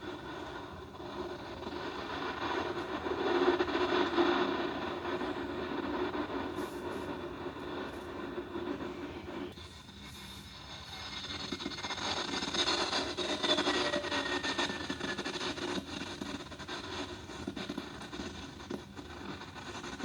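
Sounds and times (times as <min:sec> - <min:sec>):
jet airliner engine rush: 0:00.0 - 0:20.0.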